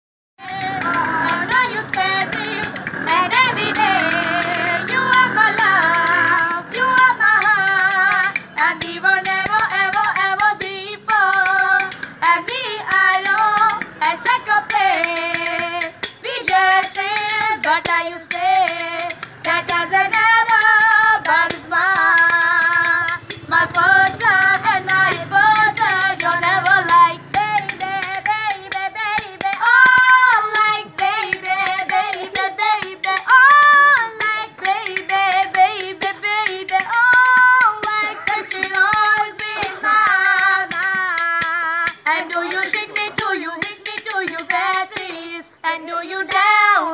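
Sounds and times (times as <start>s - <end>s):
two women singing: 0.4s - 46.9s.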